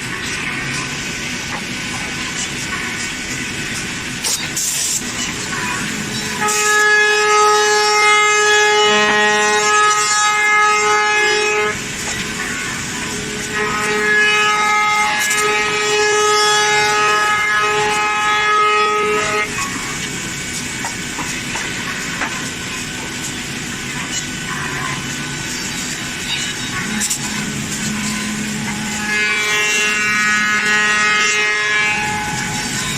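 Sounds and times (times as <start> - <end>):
dull machine noise: 4.9 - 32.9.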